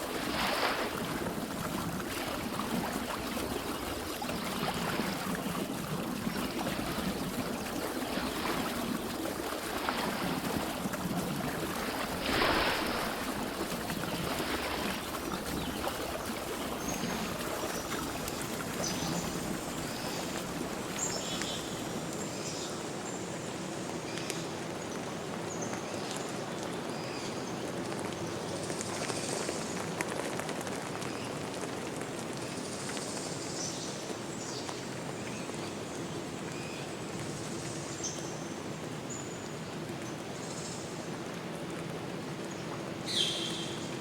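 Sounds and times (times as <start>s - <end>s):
water running like a stream: 0.0s - 44.0s.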